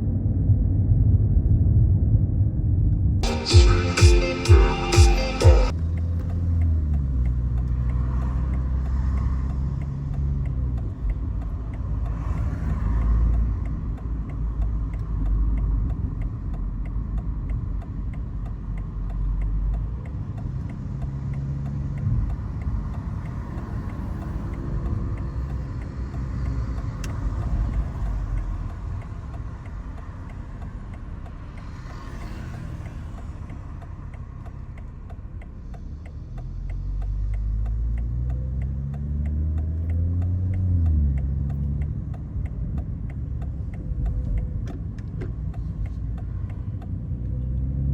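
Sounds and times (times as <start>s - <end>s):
car engine while driving: 0.0s - 47.9s.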